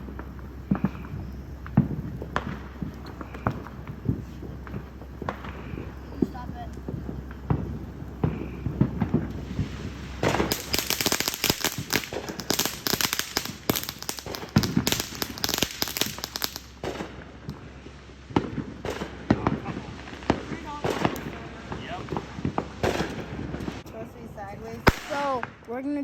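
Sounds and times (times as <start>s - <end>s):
fireworks crackling and popping: 0.0s - 26.0s.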